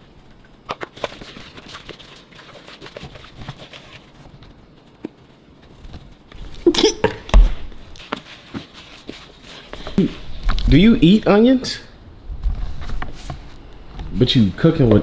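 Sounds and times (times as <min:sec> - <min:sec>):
rustling and handling noise: 0:00.0 - 0:15.0.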